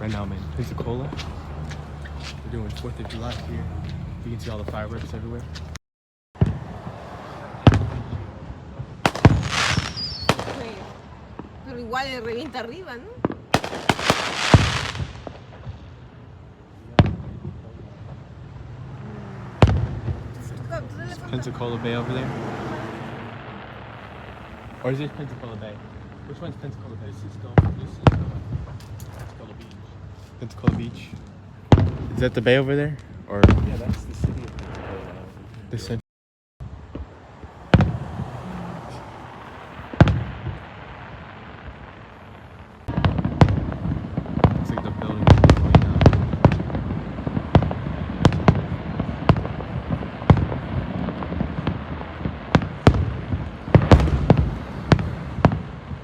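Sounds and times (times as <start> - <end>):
fireworks crackling hiss: 0.0 - 3.6, 6.4 - 18.0, 19.4 - 35.4, 36.6 - 56.0
fireworks booming: 0.0 - 5.8, 6.4 - 35.9, 36.6 - 56.0.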